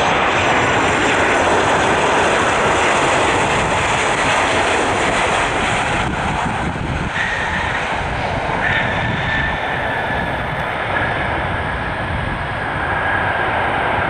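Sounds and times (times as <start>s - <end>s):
jet airliner landing: 0.0s - 14.0s.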